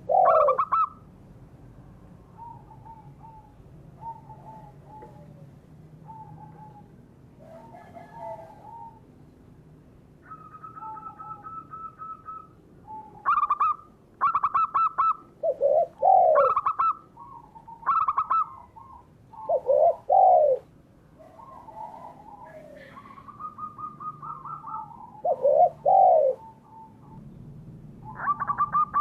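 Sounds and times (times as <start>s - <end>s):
dove low arching coos: 0.0s - 1.0s, 2.2s - 9.1s, 10.2s - 27.3s, 28.0s - 29.0s
dove rapid cooing: 0.0s - 1.0s, 2.4s - 5.4s, 6.0s - 9.1s, 10.2s - 27.2s, 28.0s - 29.0s.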